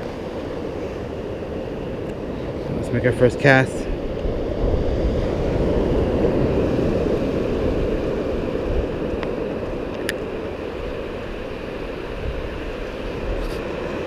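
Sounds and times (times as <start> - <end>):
surf on beach: 0.0 - 14.0
wind on microphone: 0.0 - 14.0.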